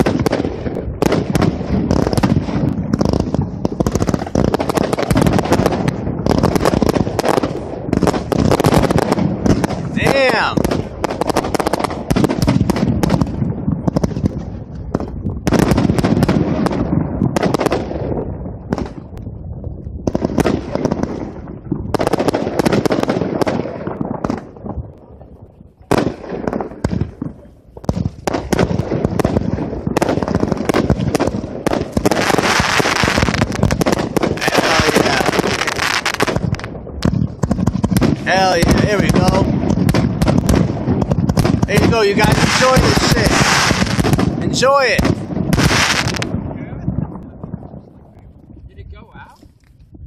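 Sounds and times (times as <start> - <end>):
firework crackling barrage: 0.0 - 50.0
fireworks shots and aerial bursts: 0.0 - 50.0.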